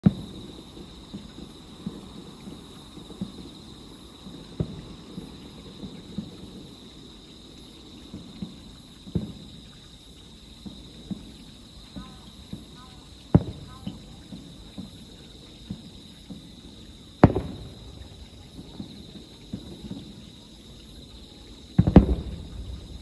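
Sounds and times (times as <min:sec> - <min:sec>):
distant fireworks booming: 0:00.0 - 0:23.0.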